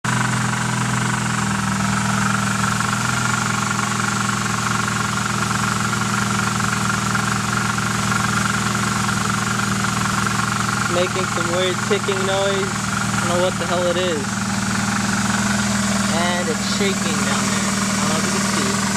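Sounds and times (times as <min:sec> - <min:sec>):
car engine idling: 0:00.0 - 0:18.9
rapid engine ticking: 0:00.0 - 0:18.9.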